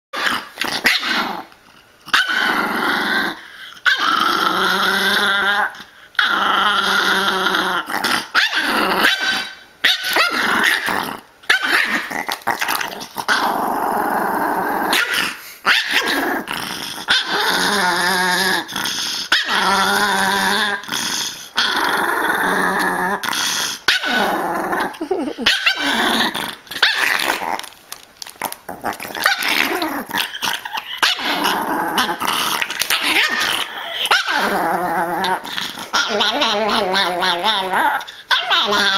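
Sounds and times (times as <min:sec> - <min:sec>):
dog growling and snarling: 0:00.2 - 0:38.9.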